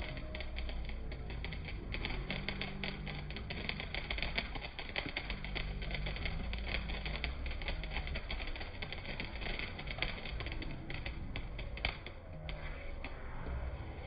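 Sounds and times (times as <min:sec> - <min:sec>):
firework fountain crackling: 0:00.0 - 0:14.0.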